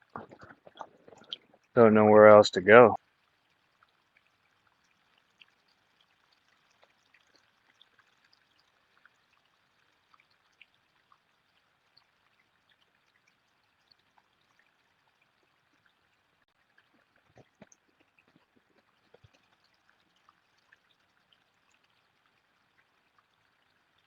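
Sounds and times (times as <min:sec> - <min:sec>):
faint creek water: 0:00.0 - 0:24.0
small drip-like ticks: 0:00.0 - 0:24.0.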